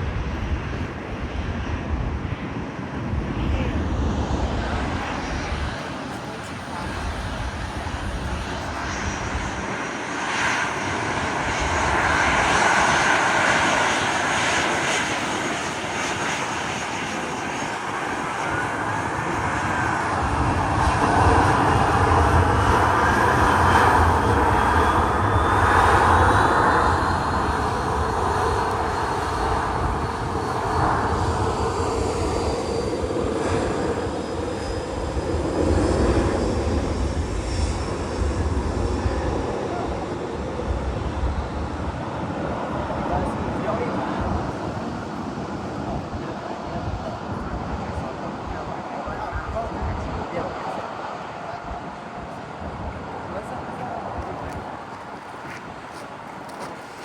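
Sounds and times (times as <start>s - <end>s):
jet engine rumble: 0.0s - 57.0s.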